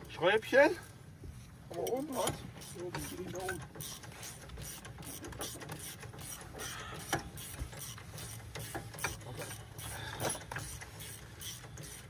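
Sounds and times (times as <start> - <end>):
ratchet wrench clicking: 2.3 - 12.0.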